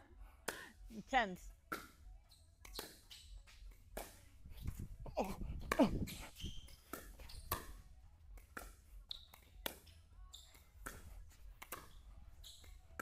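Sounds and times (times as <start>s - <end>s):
ball bouncing on court: 1.4s - 4.8s, 5.6s - 13.0s.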